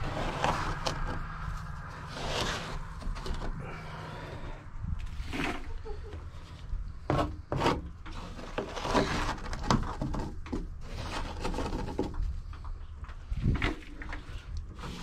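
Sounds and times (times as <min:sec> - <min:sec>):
scooper scraping coop bedding: 0:00.0 - 0:12.4, 0:13.2 - 0:15.0.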